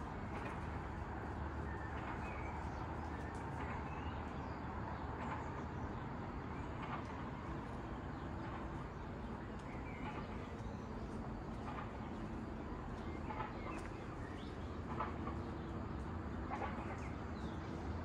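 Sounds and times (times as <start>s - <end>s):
low background noise: 0.0s - 18.0s.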